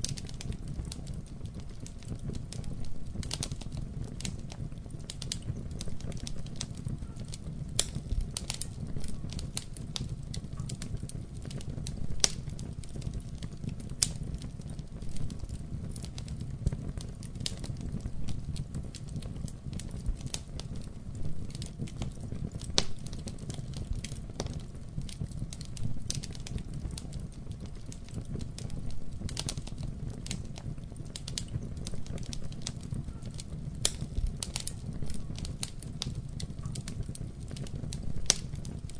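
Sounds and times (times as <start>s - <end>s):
burning logs crackling and popping: 0.0s - 38.9s
low rumble of flames: 0.0s - 38.9s.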